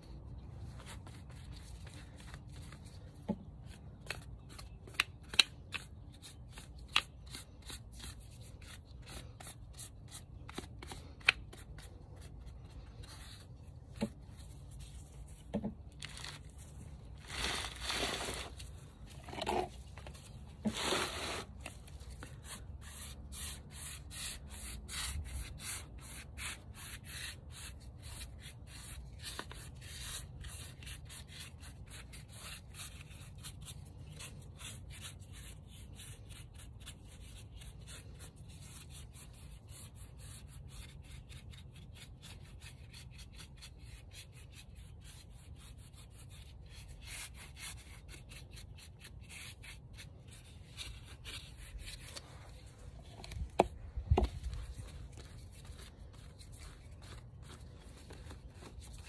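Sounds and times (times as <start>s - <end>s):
brush scratching on concrete: 0.1s - 59.0s.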